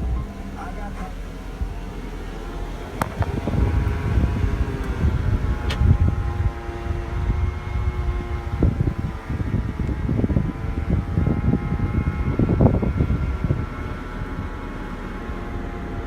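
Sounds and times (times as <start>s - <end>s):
car high-pitched whine: 0.0s - 16.0s
low rumble: 0.0s - 16.0s.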